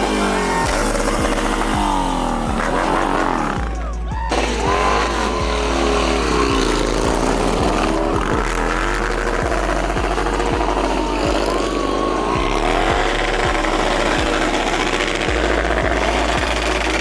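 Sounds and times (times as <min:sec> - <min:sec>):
music with heavy beat: 0:00.0 - 0:17.0
vehicle engine revving: 0:00.0 - 0:17.0.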